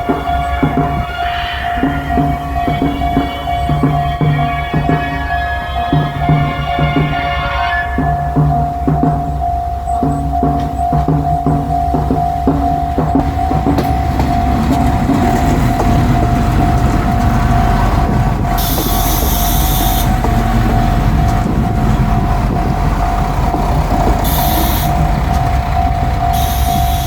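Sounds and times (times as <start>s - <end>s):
high-pitched brake squeals: 0.0s - 10.9s, 12.8s - 22.3s, 23.9s - 27.0s
diesel train engine rumble: 0.0s - 27.0s
level-crossing warning bell: 0.0s - 27.0s.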